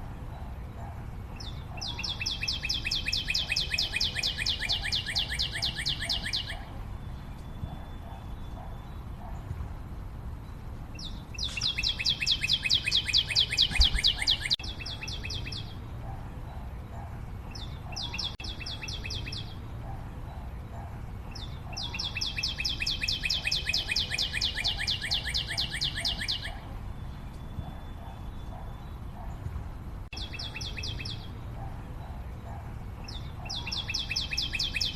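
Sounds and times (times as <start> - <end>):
small bird singing trills: 1.3 - 9.5, 10.4 - 15.9, 16.5 - 29.5, 30.1 - 34.9.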